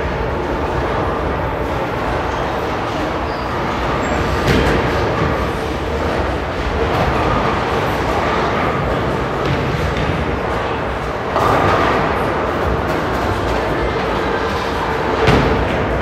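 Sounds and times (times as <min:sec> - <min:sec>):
echoing crowd din in mall: 0:00.0 - 0:16.0.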